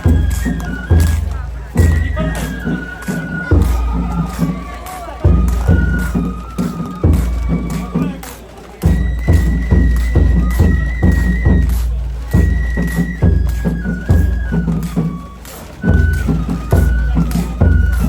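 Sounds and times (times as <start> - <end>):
bamboo flute melody: 0.0 - 18.0.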